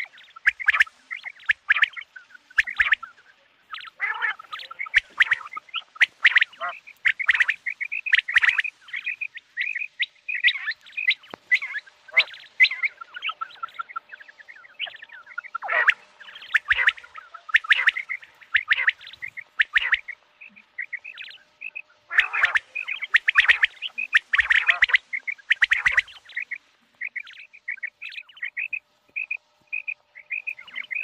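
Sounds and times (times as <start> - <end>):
quail chirps and trills: 0.0 - 31.0.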